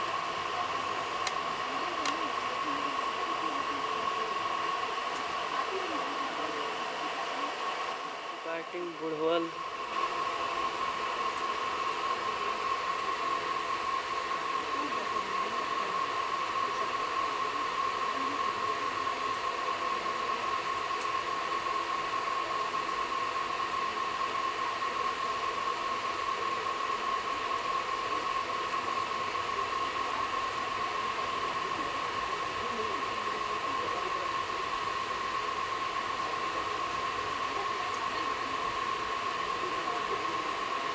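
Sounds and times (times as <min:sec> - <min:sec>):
constant whine: 0:00.0 - 0:40.9.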